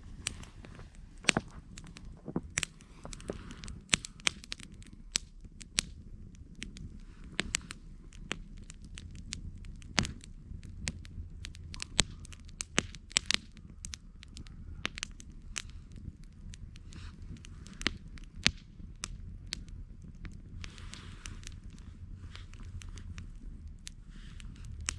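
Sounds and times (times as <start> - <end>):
campfire crackling and popping: 0.0 - 24.9
low steady rumble: 0.0 - 24.9.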